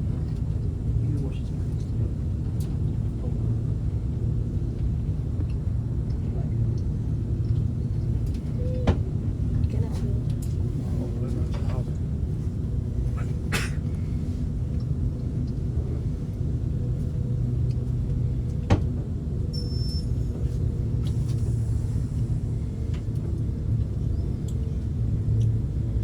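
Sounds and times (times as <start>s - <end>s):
train rumble and engine hum: 0.0s - 26.0s.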